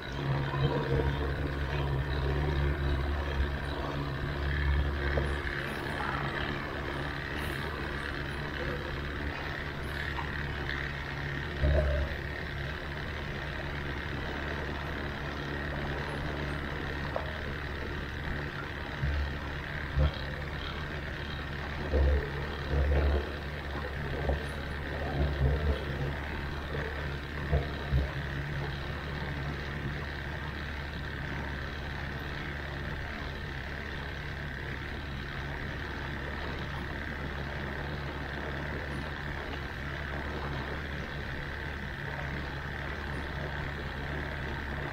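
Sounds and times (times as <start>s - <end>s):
outboard motor idling: 0.0s - 44.9s.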